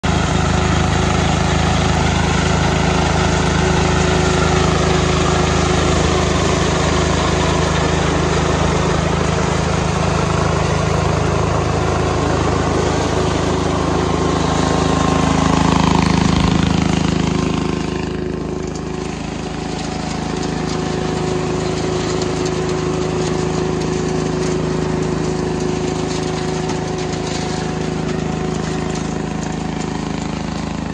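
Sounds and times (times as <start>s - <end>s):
combine harvester running: 0.0s - 30.9s.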